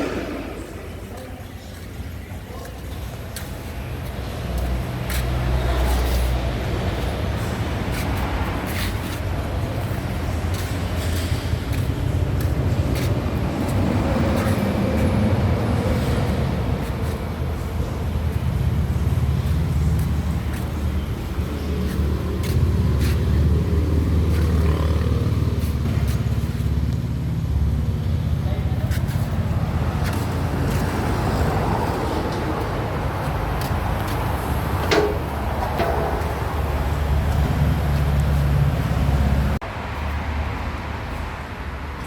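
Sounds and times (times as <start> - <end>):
heavy vehicle engine rumbling: 0.0 - 39.6.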